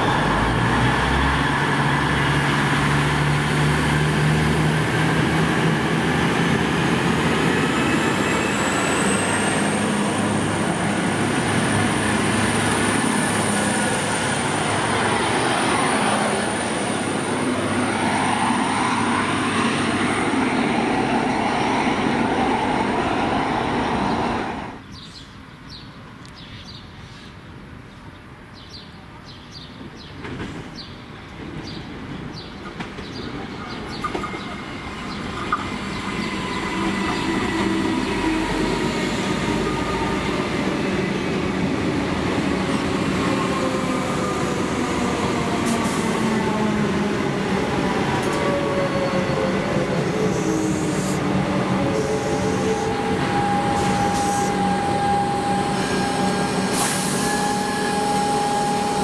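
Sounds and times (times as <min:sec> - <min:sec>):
train engines running: 0:00.0 - 0:24.8, 0:29.8 - 0:59.0
wheels rumbling on rails: 0:00.0 - 0:24.8, 0:29.8 - 0:59.0.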